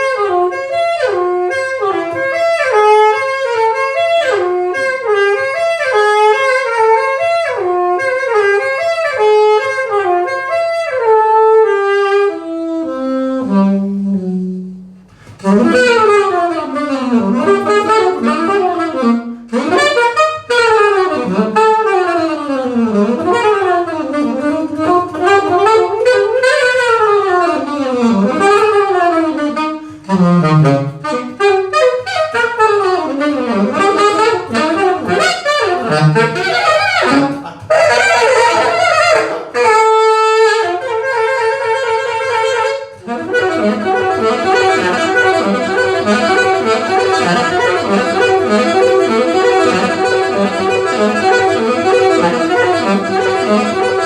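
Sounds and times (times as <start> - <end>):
jazz band playing: 0.0 - 54.0
wind instrument fast runs: 0.0 - 54.0.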